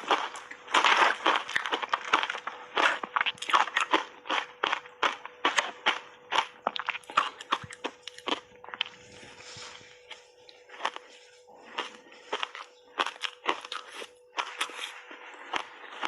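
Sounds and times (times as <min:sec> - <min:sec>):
shaved ice crunching between teeth: 0:00.0 - 0:09.0, 0:10.8 - 0:16.0
soft chewing: 0:00.0 - 0:16.0.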